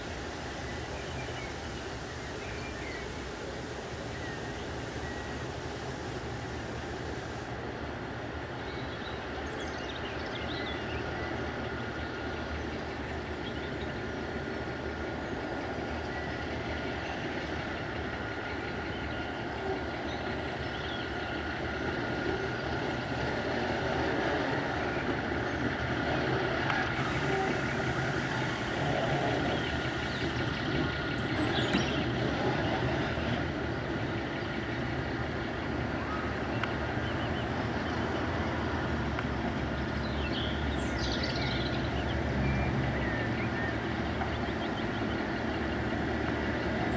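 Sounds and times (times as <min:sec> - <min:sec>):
diesel engine humming and whining: 0:00.0 - 0:46.9.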